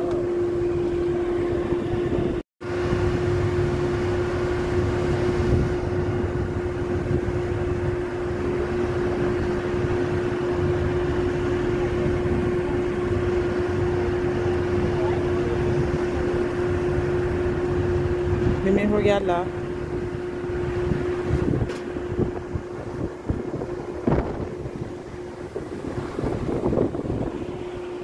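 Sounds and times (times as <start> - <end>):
motorboat engine humming: 0.0 - 28.0
water noise: 0.0 - 28.0
rushing wind: 0.2 - 28.0.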